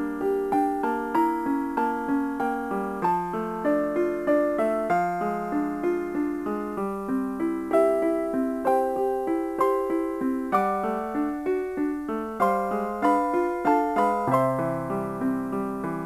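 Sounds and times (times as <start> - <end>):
light keyboard melody: 0.0 - 16.0.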